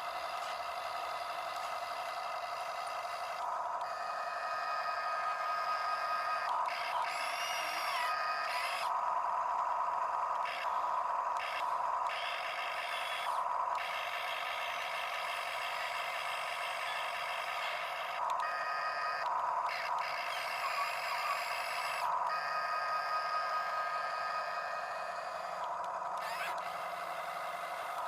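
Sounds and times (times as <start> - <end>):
small electric motors whining: 0.0 - 28.0.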